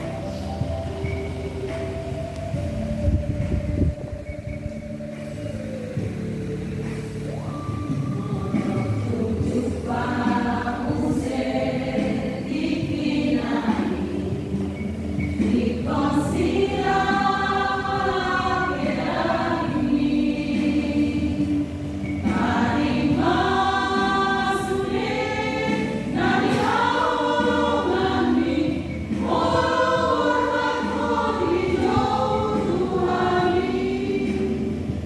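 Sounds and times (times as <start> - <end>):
women's choir singing a hymn: 0.0 - 2.9, 7.1 - 35.0.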